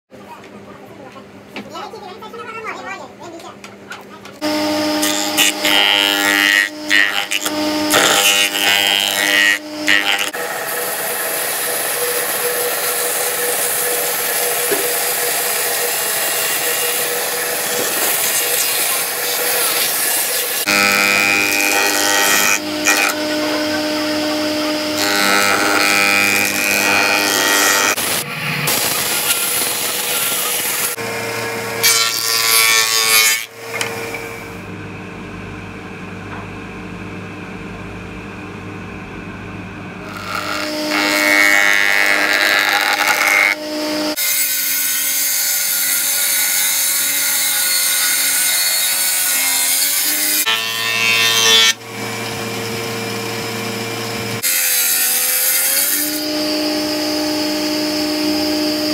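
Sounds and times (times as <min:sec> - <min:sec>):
woodworking machine motor hum: 0:04.2 - 0:35.0, 0:39.2 - 0:58.9
jointer planing wood: 0:04.4 - 0:34.7, 0:40.0 - 0:58.9.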